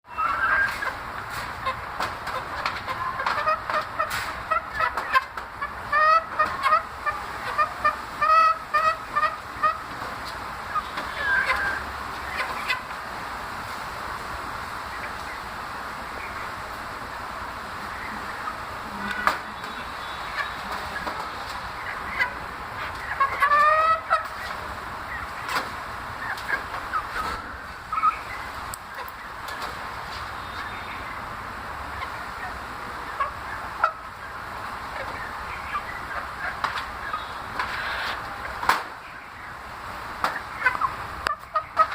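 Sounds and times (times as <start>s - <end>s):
chicks calling: 0.1s - 13.1s, 14.7s - 41.9s.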